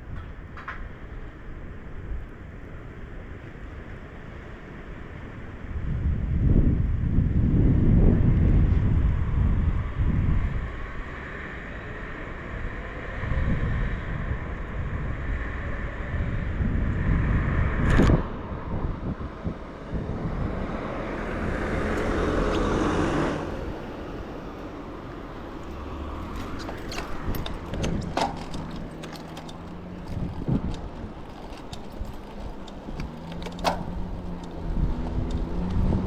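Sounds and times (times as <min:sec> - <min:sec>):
wind buffeting microphone: 0:04.9 - 0:36.0.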